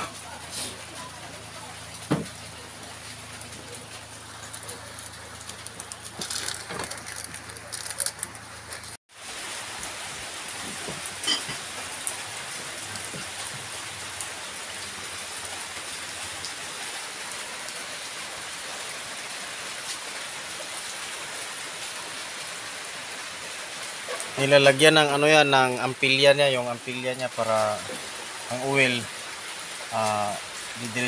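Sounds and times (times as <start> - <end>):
steady rain: 0.0 - 31.0.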